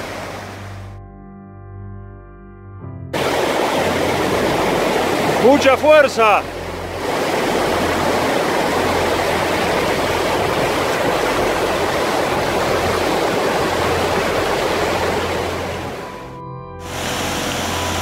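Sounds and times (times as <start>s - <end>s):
river rushing over rapids: 0.0s - 0.8s, 3.2s - 16.1s, 16.8s - 18.0s.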